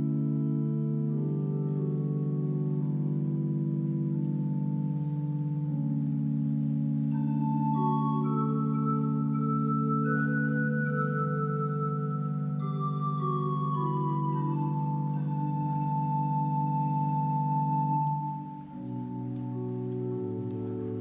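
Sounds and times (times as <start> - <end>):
organ playing slow chords: 0.0 - 21.0.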